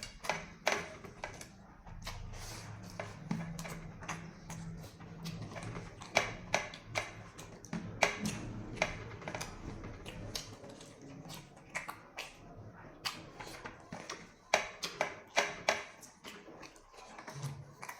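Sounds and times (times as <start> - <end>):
person chewing with crunches: 0.0 - 17.9.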